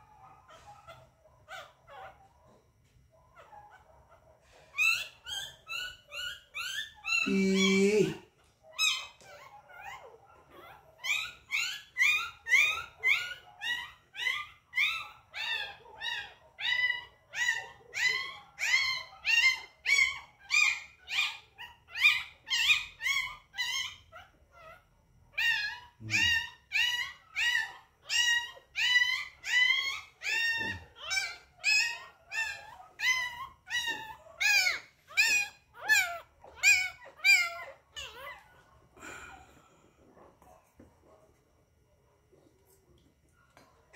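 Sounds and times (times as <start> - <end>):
puppy crying: 0.0 - 40.6.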